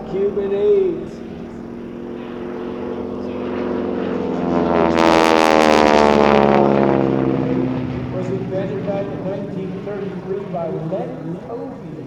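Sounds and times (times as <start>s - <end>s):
propeller plane passing low: 0.0s - 12.0s.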